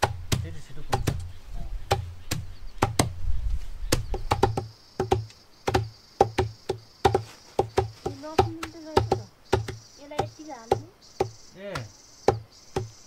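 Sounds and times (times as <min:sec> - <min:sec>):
sickles chopping on wooden block: 0:00.0 - 0:01.3, 0:01.9 - 0:03.2, 0:03.9 - 0:13.0.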